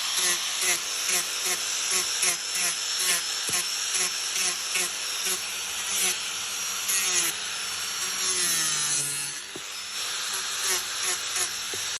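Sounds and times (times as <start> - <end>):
tool rasping wood: 0.0 - 11.9.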